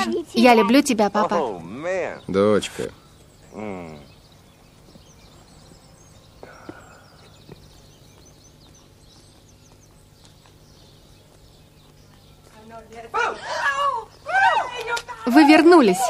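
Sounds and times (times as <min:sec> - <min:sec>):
faint outdoor ambience: 0:00.0 - 0:16.0
small birds chirping: 0:00.0 - 0:16.0.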